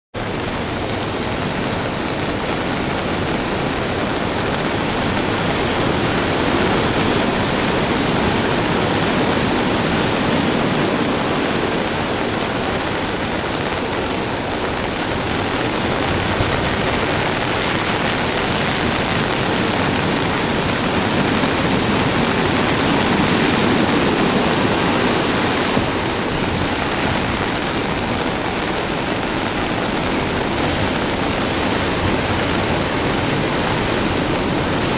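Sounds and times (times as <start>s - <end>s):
wind: 0.1s - 34.9s
heavy storm surf: 0.2s - 34.9s.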